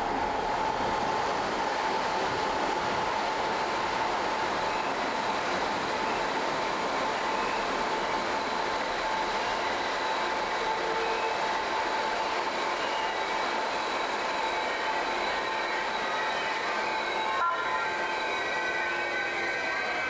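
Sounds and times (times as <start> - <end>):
train rumble and whine: 0.0 - 20.0.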